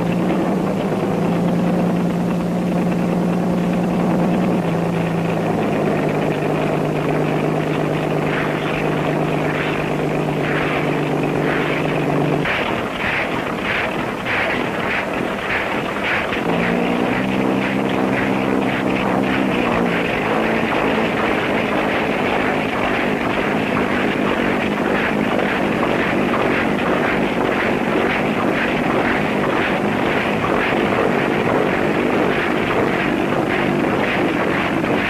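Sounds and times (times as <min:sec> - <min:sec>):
flying machine engine rushing: 0:00.0 - 0:35.0
low drone: 0:00.0 - 0:35.0.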